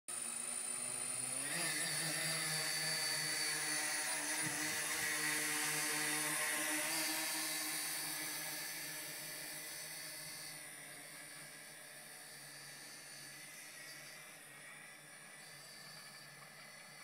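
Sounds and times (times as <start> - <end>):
drone propellers whirring: 0.1 - 17.0.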